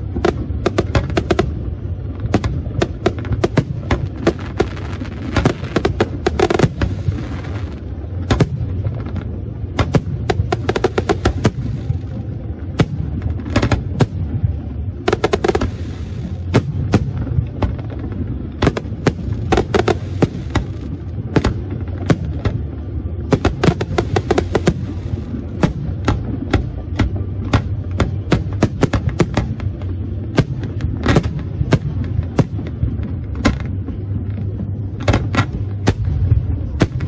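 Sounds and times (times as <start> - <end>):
firework bangs: 0.0 - 37.0
low rumble: 0.0 - 37.0.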